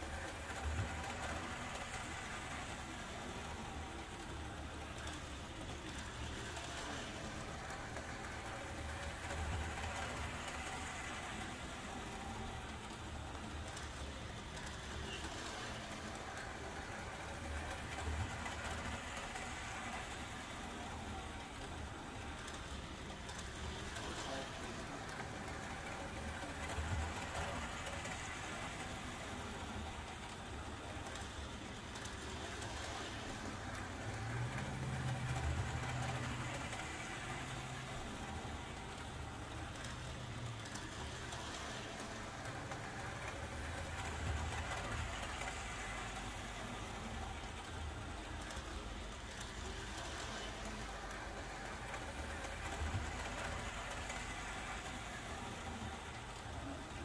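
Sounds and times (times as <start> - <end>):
model train rumbling on track: 0.0 - 57.0
steady background hiss: 0.0 - 57.0.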